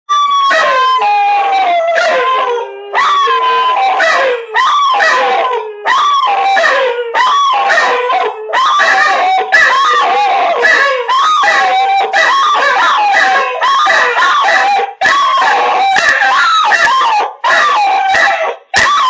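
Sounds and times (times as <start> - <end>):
dog howling: 0.1 - 19.0.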